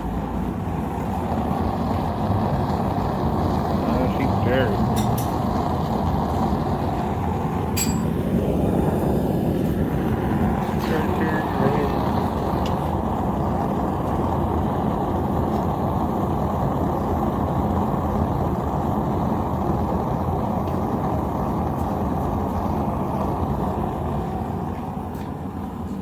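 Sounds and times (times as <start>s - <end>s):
low rumbling noise: 0.0s - 25.8s.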